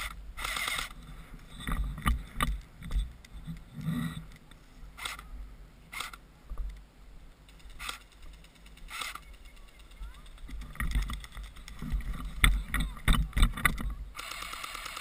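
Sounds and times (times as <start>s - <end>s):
wind rumbling on microphone: 0.0s - 5.7s, 6.4s - 14.2s.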